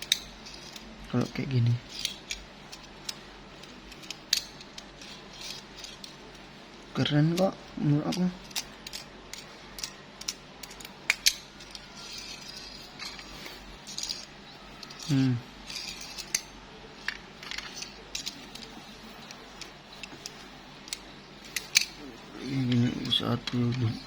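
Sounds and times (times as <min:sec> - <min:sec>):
toy car parts clicking: 0:00.0 - 0:06.5, 0:07.2 - 0:24.0.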